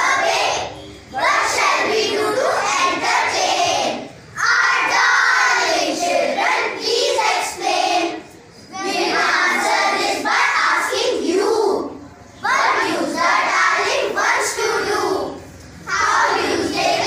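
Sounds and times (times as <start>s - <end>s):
children reciting in unison: 0.0s - 17.0s.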